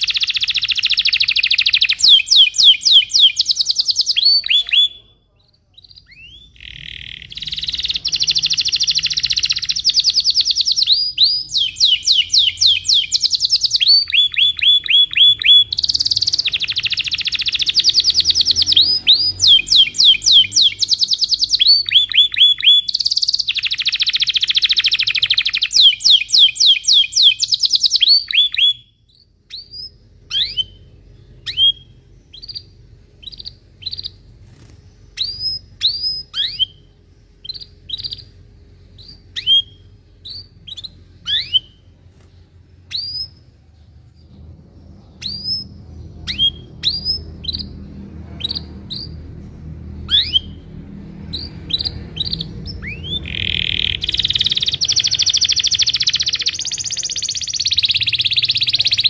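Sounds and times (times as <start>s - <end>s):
canary singing trills and chirps: 0.0s - 59.0s.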